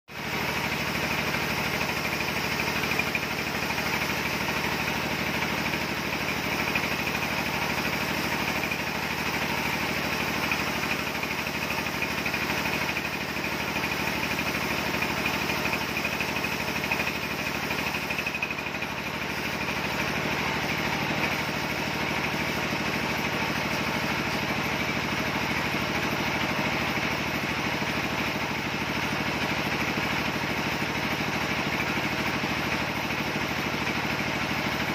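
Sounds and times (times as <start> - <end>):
band sawmill running: 0.1 - 34.9.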